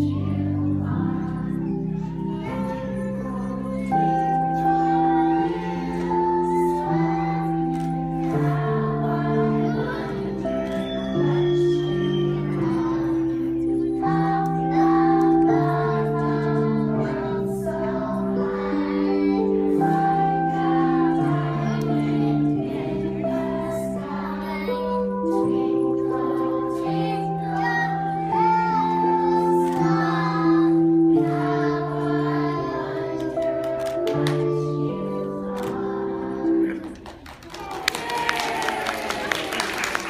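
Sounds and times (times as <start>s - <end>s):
children singing: 0.0s - 36.9s.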